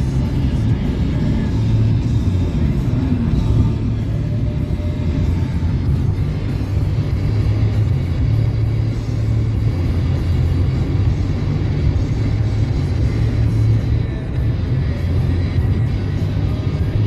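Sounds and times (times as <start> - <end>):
car radio playing music: 0.0 - 17.0
road and engine rumble: 0.0 - 17.0.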